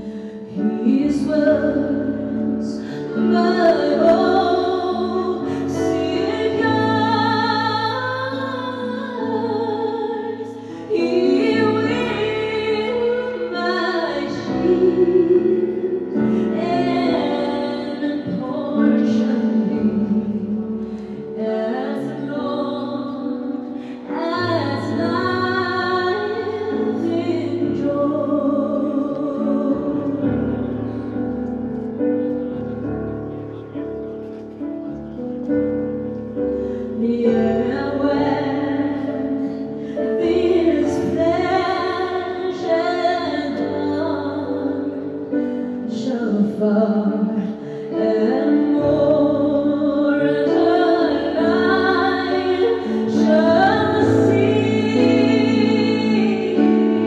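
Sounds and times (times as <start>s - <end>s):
woman singing: 0.0s - 30.8s, 36.8s - 57.0s.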